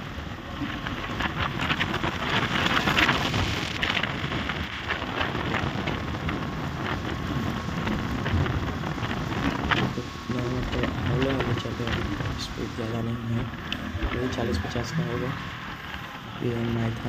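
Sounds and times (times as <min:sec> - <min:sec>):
road rush: 0:00.0 - 0:17.0
wind buffeting microphone: 0:00.0 - 0:17.0.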